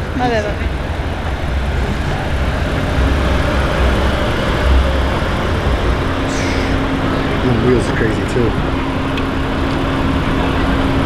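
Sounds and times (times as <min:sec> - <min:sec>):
car engines droning: 0:00.0 - 0:11.0
deep uneven rumble: 0:00.0 - 0:11.0.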